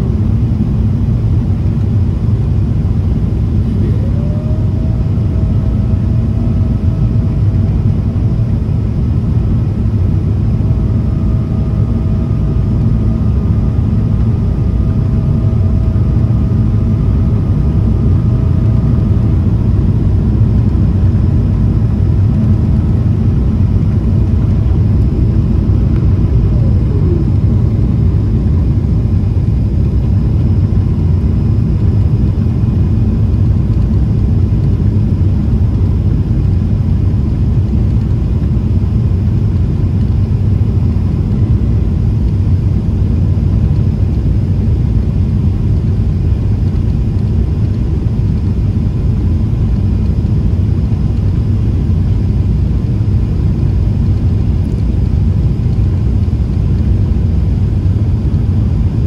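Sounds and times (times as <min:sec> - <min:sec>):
airplane engines low rumble: 0:00.0 - 0:59.0
faint steady whine: 0:00.0 - 0:59.0.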